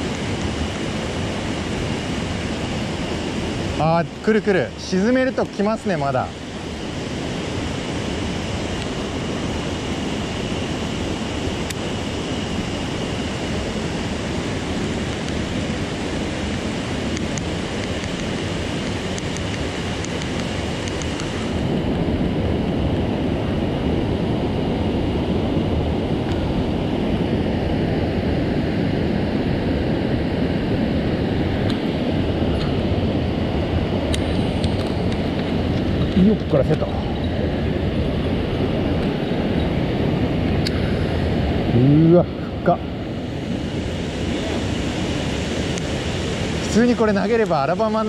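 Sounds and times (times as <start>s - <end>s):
stream water rushing: 0.0s - 22.3s, 31.1s - 48.0s.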